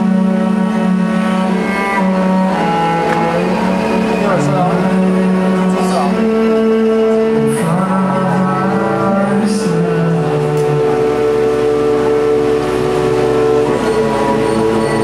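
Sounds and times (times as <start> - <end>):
man singing drawn-out notes: 0.0 - 15.0
ringing guitar and keyboard notes: 0.0 - 15.0.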